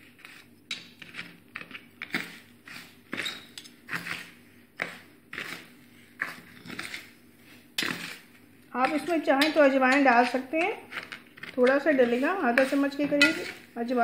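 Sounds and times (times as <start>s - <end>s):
spoon scraping on steel plate: 0.0s - 7.1s, 7.8s - 13.8s.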